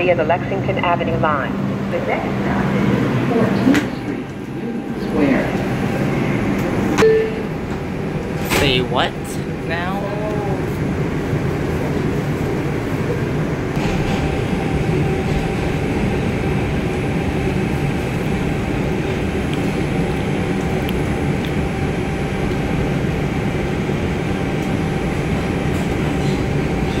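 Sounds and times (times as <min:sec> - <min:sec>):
subway wheels rumbling on rail: 0:00.0 - 0:27.0.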